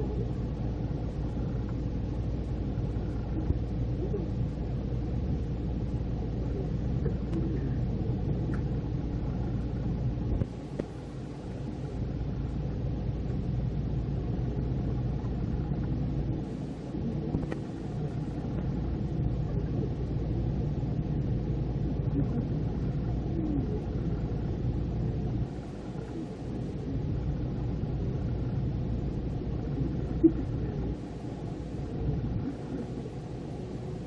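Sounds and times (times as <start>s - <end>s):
constant hum: 0.0s - 34.0s.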